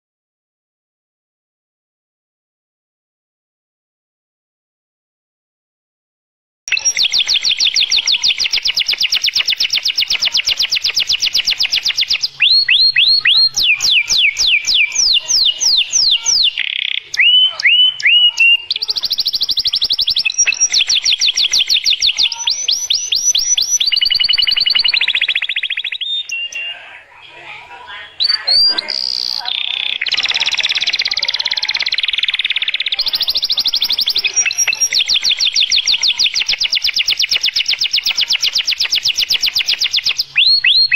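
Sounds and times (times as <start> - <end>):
canary singing: 6.7 - 40.9.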